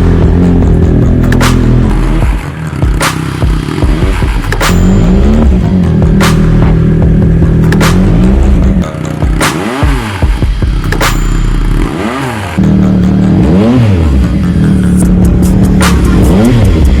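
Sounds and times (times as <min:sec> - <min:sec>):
exhaust cracks: 0:00.0 - 0:17.0
motorcycle engine revving: 0:00.0 - 0:17.0.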